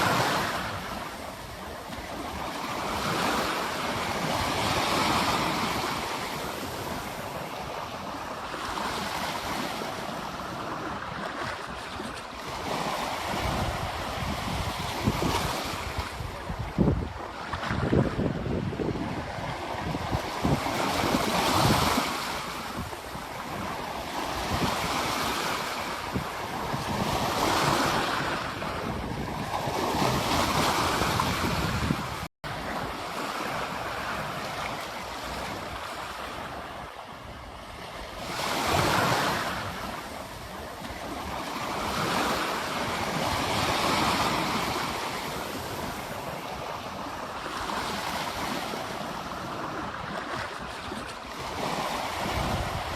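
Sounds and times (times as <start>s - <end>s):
ocean surf breaking on beach: 0.0s - 52.9s.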